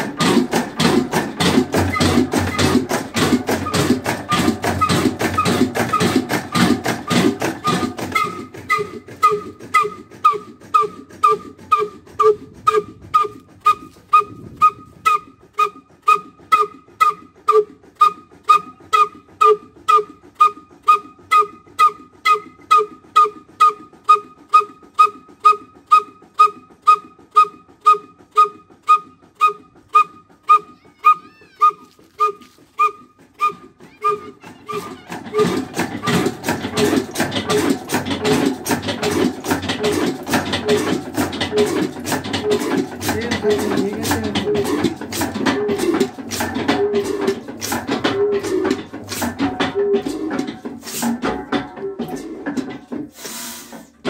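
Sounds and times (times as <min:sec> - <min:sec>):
engine exhaust pops: 0:00.0 - 0:29.5, 0:32.0 - 0:54.0
diesel engine clattering: 0:00.0 - 0:54.0.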